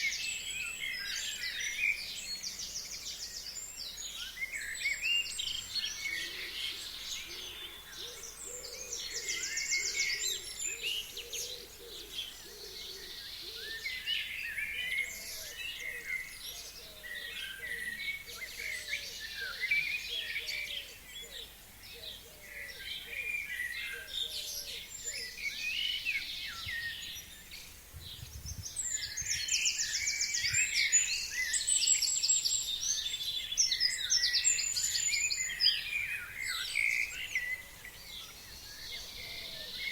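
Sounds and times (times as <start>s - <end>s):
forest birds singing: 0.0s - 39.9s.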